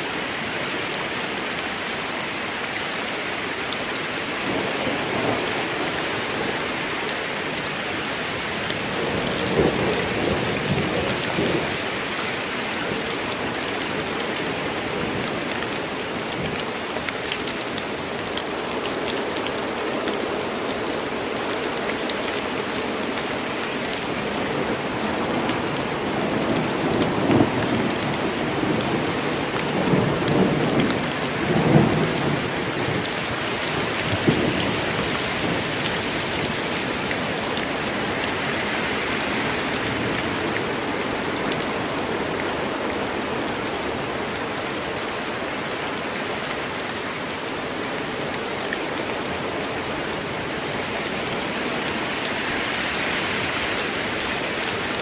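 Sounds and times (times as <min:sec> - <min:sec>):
heavy rain in forest: 0:00.0 - 0:55.0.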